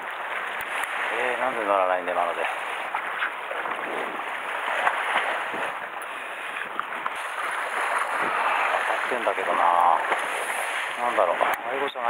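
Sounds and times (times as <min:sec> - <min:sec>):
sea water splashing on rocks: 0:00.0 - 0:12.0.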